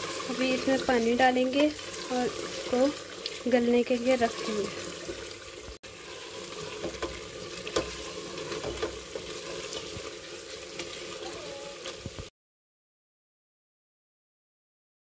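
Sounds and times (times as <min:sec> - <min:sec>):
food sizzling in a pot: 0:00.0 - 0:12.3
wooden spatula scraping a pot: 0:00.0 - 0:12.3.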